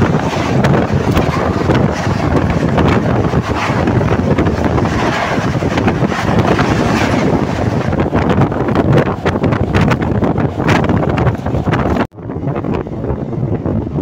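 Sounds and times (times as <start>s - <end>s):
train rushing at speed: 0.0s - 14.0s
wind buffeting microphone: 0.0s - 14.0s.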